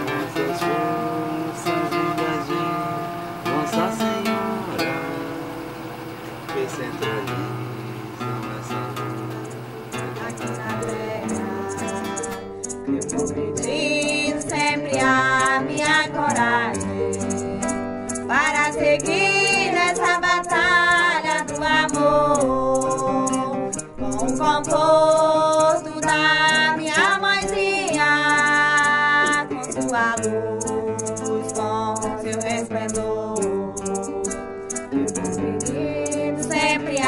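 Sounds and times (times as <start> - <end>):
person singing a hymn: 0.0 - 12.4, 13.2 - 34.2, 34.9 - 37.0
acoustic guitar: 0.0 - 37.0.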